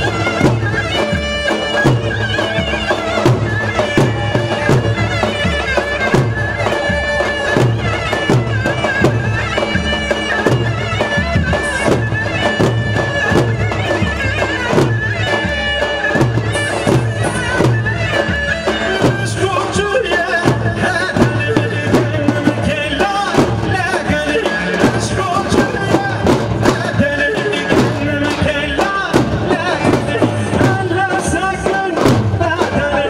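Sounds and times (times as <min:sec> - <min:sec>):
deep drum beat: 0:00.0 - 0:33.0
folk dance music: 0:00.0 - 0:33.0.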